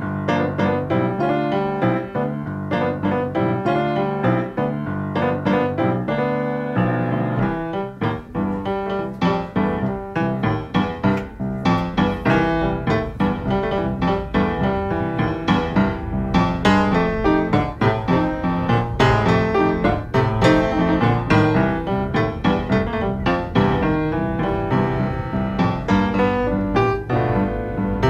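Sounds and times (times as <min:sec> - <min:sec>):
blues piano playing: 0:00.0 - 0:28.0
repeated piano chord strikes: 0:00.0 - 0:28.0.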